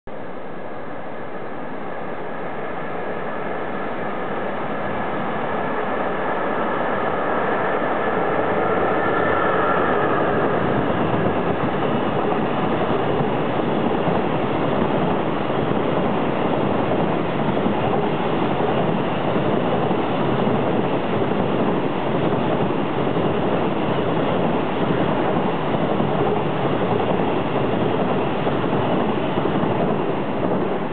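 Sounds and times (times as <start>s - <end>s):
electric locomotive whine: 0.1s - 30.9s
wagons rumbling and clattering on rails: 3.2s - 30.9s.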